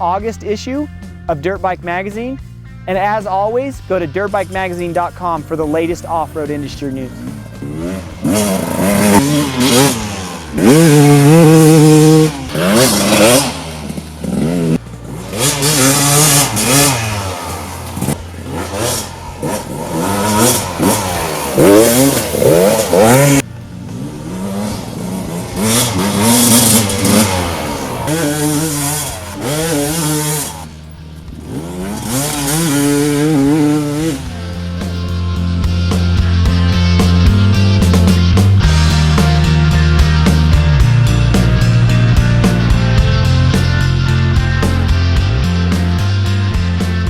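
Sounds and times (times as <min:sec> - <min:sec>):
dirt bike engine revving: 0:02.9 - 0:47.0.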